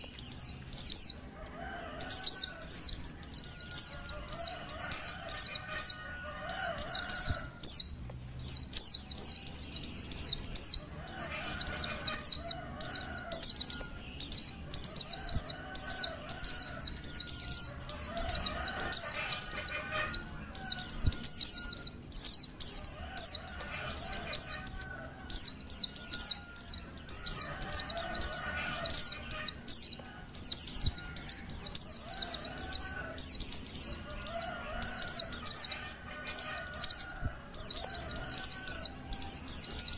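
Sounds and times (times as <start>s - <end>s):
bird high-pitched chirps: 0.0s - 39.9s.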